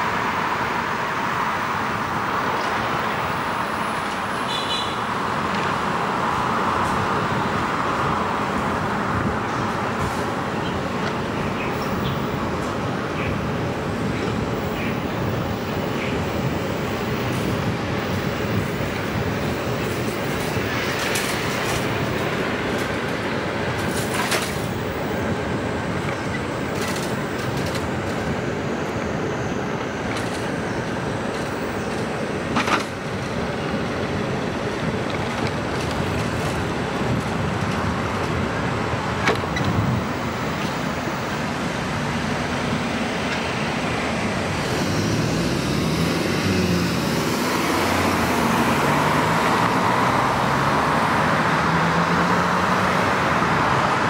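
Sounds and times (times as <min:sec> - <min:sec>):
road traffic rushing: 0:00.0 - 0:54.0.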